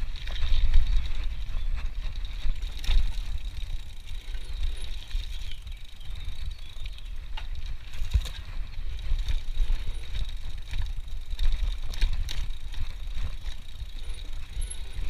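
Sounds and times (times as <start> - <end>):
bike rattling over rough ground: 0.0 - 15.0
wind buffeting camera: 0.0 - 15.0.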